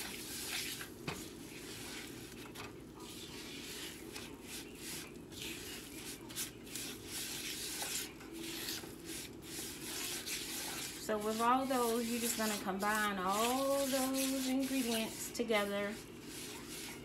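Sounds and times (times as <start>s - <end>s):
spatula scraping a frying pan: 3.2s - 17.0s.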